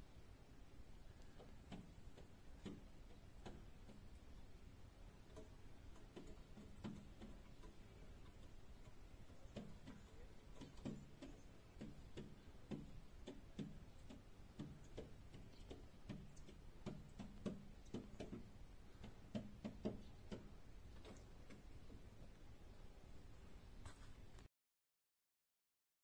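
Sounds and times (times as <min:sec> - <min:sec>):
pigeon feet tapping on glass: 0:01.1 - 0:22.4.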